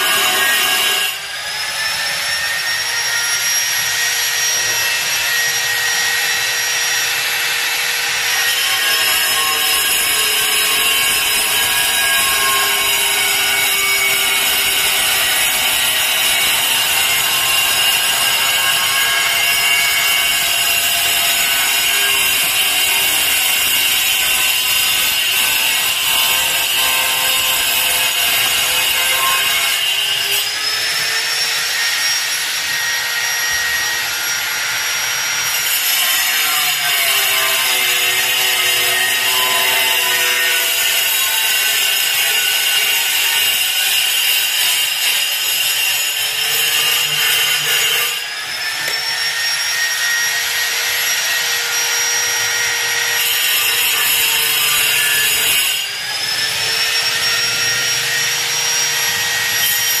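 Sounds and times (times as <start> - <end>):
angle grinder whine and grinding: 0.0 - 60.0.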